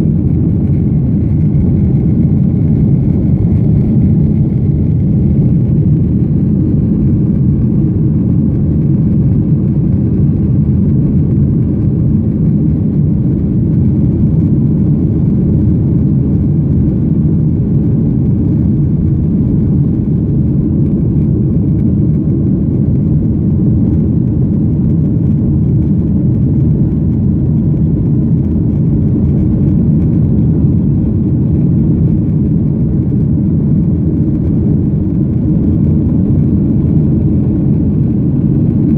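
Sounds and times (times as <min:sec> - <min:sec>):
airplane engines rumbling in cabin: 0:00.0 - 0:38.9.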